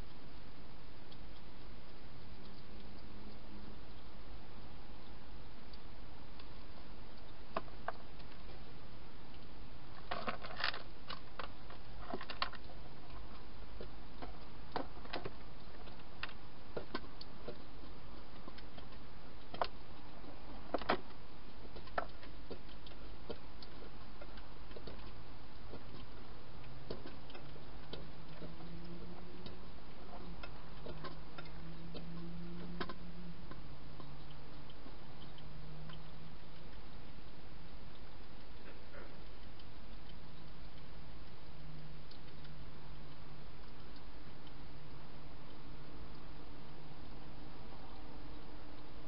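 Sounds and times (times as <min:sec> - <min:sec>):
microphone hiss: 0:00.0 - 0:49.0.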